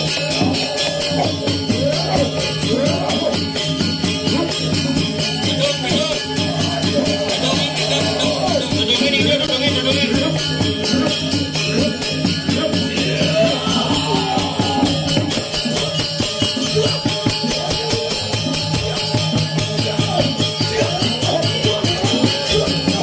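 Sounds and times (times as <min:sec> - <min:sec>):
ringing metallophone: 0:00.0 - 0:23.0
small cymbals clashing: 0:00.0 - 0:23.0.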